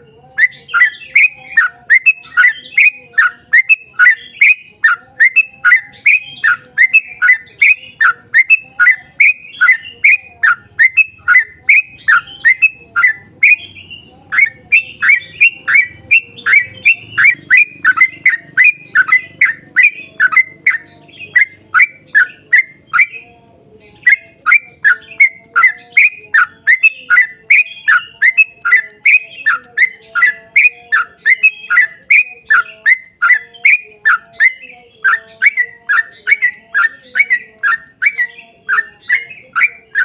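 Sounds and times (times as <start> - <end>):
bird singing rapid chirps: 0.0 - 40.0.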